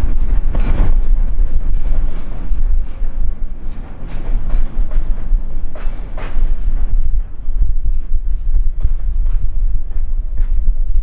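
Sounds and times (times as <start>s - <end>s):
train rumbling past: 0.0s - 11.0s
wind buffeting microphone: 0.0s - 11.0s.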